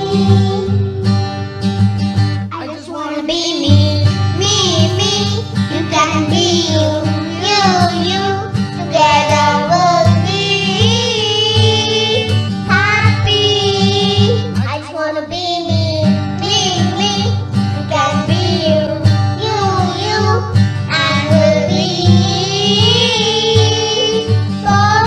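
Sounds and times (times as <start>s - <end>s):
children's choir singing: 0.0s - 1.0s, 2.9s - 25.0s
acoustic guitar: 0.0s - 25.0s.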